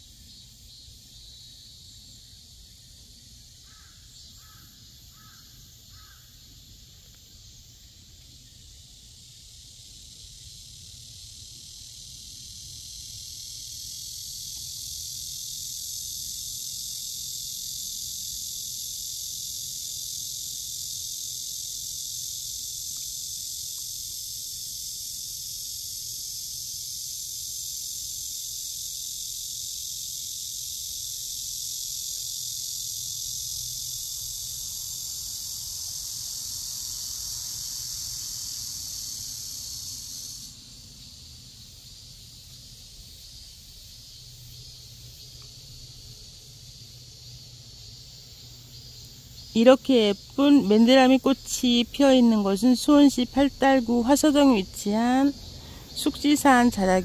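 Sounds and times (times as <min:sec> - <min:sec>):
faint hiss: 0:00.0 - 0:57.0
insects buzzing: 0:00.0 - 0:57.0.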